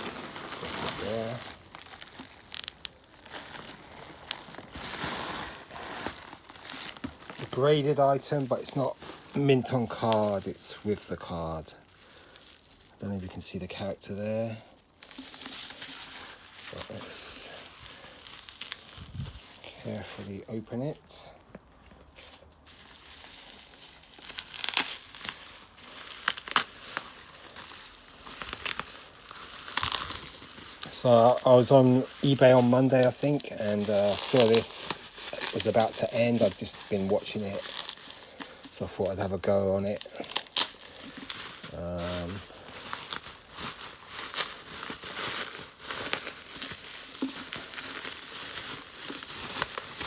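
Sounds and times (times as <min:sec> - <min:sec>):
packaging crinkling and tearing: 0:00.0 - 0:21.4, 0:22.2 - 0:50.0.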